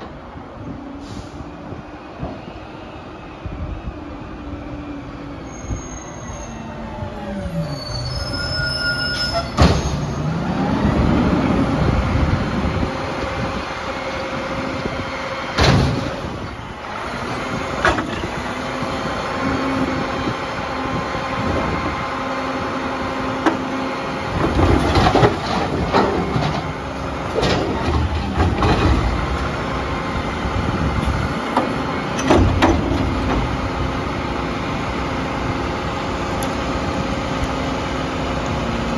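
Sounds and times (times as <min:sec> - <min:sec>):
diesel engine and hydraulics whining: 0:00.0 - 0:38.9.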